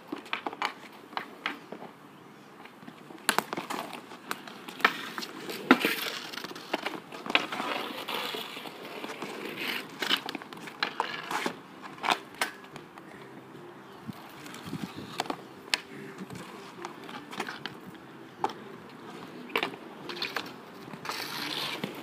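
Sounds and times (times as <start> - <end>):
skate wheels rolling on asphalt: 0.0 - 22.0.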